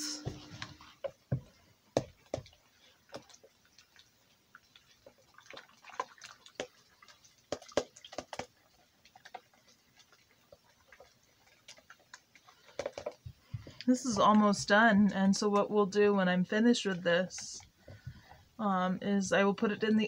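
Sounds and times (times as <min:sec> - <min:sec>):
wet sloshing: 0:00.3 - 0:18.6.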